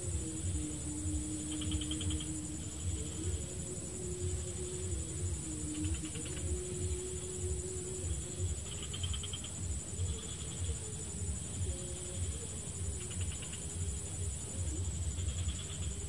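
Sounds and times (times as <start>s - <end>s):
faint wavering hum: 0.0s - 16.0s
high insect drone: 0.0s - 16.0s
pulsed trills of insects or frogs: 0.0s - 16.0s.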